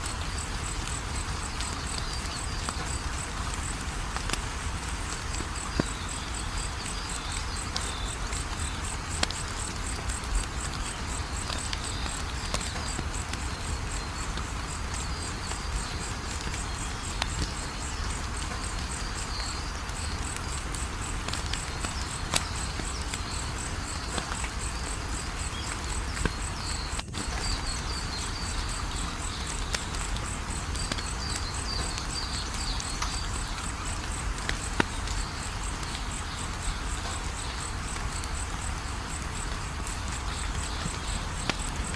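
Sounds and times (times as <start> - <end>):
crickets chirping: 0.0 - 41.9
wood fire crackling and popping: 0.0 - 41.9.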